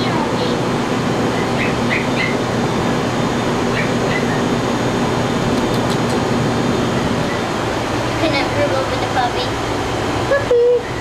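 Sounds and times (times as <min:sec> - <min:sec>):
fan whooshing with low hum: 0:00.0 - 0:11.0.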